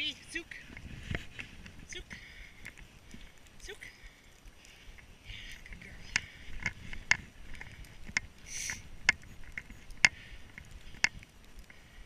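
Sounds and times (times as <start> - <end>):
breathy rush of air: 0.8 - 9.0, 10.0 - 12.0.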